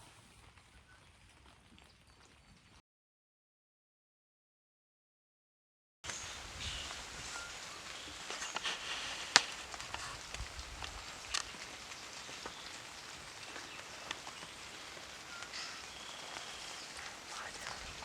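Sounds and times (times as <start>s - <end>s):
light ticks and crackles: 0.0s - 2.8s, 6.1s - 18.0s.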